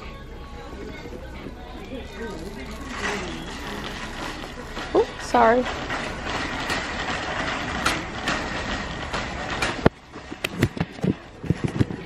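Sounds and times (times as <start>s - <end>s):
shopping cart rattling: 1.7s - 12.0s.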